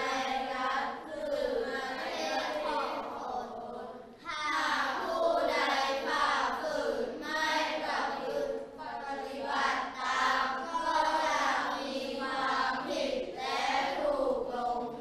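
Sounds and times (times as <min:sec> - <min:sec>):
children reading aloud in unison: 0:00.0 - 0:15.0.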